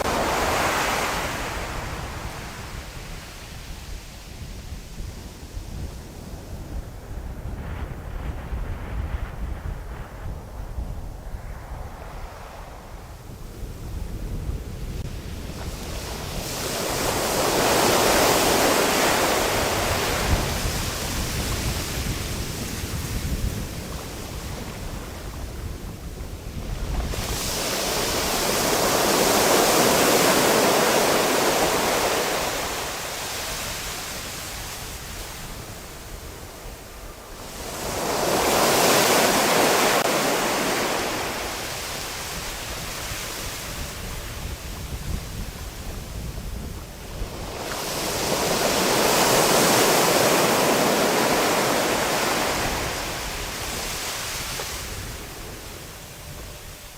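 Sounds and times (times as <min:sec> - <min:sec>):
sea waves washing onto shore: 0:00.0 - 0:06.7, 0:12.0 - 0:56.9.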